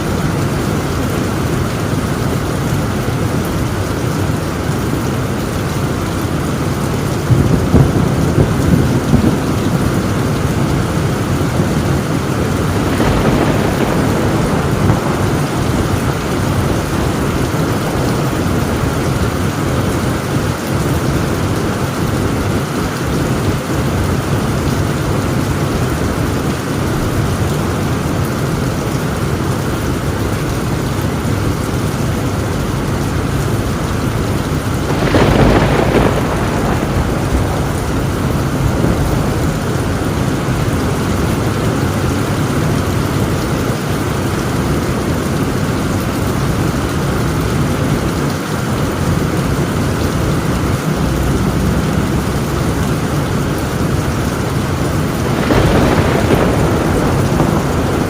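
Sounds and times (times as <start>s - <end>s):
heavy rain on a tin roof: 0.0s - 58.0s
thunder: 0.0s - 58.0s.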